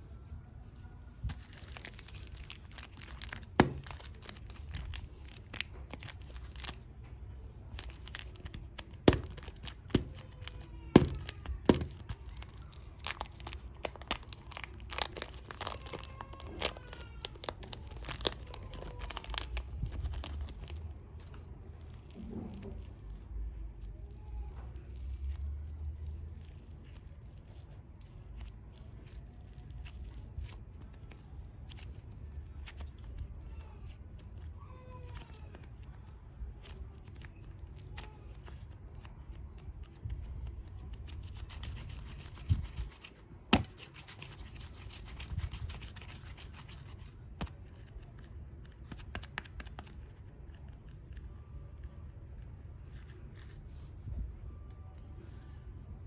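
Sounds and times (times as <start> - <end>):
packaging crinkling and tearing: 1.2 - 6.9, 7.6 - 51.3.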